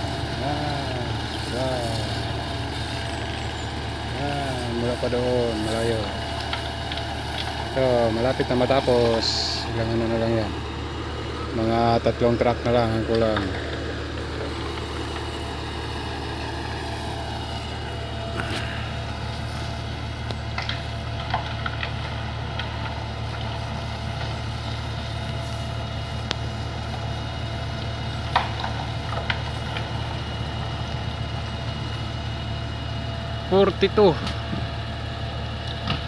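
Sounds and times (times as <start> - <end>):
vehicle engine idling: 0.0 - 36.0.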